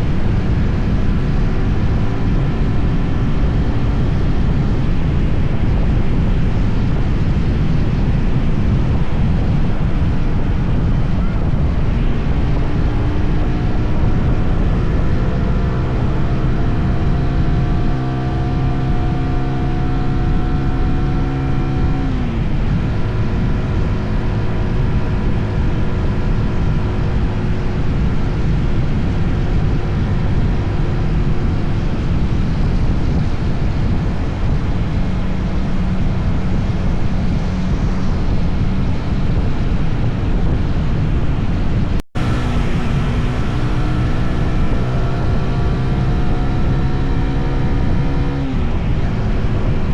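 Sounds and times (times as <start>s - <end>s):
motorcycle engine running: 0.0s - 40.8s, 41.6s - 49.9s
wind rushing over microphone: 0.0s - 49.9s.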